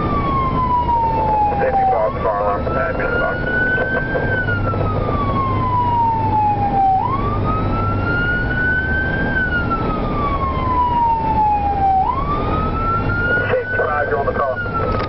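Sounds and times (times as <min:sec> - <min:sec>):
emergency siren wailing: 0:00.0 - 0:15.0
engine and road rumble: 0:00.0 - 0:15.0.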